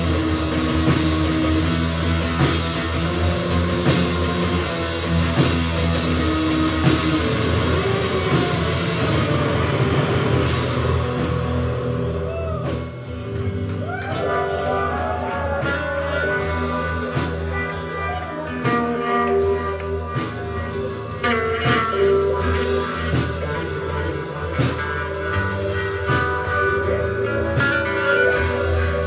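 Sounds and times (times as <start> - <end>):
drum kit steady beat: 0.0 - 29.0
gliding guitar lead: 0.0 - 29.0.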